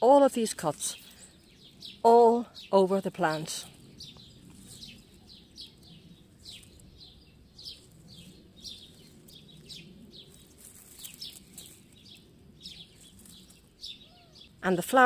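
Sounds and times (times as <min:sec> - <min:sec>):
faint low background rumble: 0:00.0 - 0:15.0
small songbird chirping: 0:00.4 - 0:15.0.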